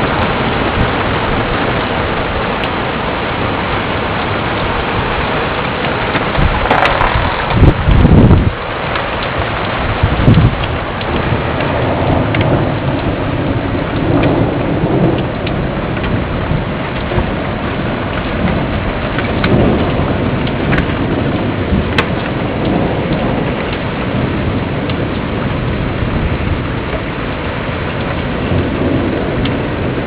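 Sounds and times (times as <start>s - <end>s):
heavy rain: 0.0s - 30.0s
low thunder rumbling: 0.0s - 30.0s
raindrops ticking nearby: 0.0s - 30.0s.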